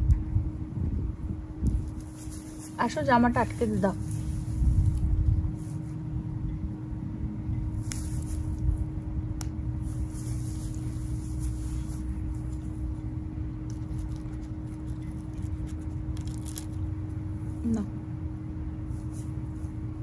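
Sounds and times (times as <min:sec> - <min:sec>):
low rumble with hum: 0:00.0 - 0:20.0.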